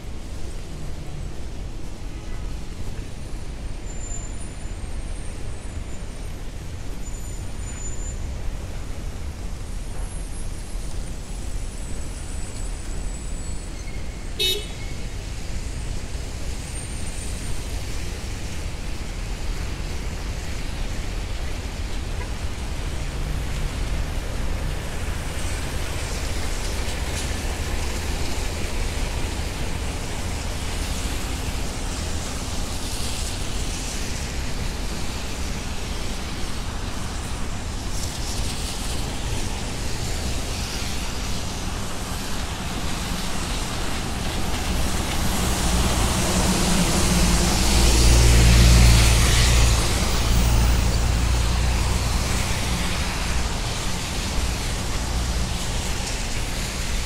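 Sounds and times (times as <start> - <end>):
tyre hiss on wet road: 0.0 - 57.0.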